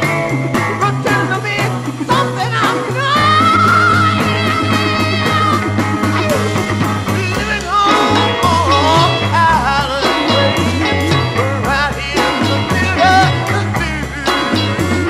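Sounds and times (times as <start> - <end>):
psychedelic rock music: 0.0 - 15.0.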